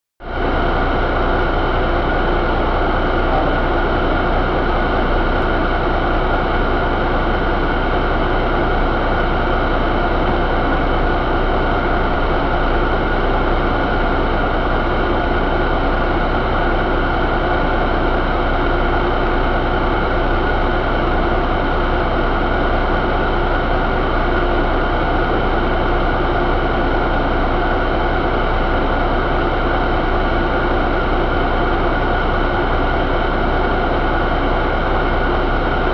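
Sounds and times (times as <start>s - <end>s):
diesel engine running steadily: 0.2s - 35.9s.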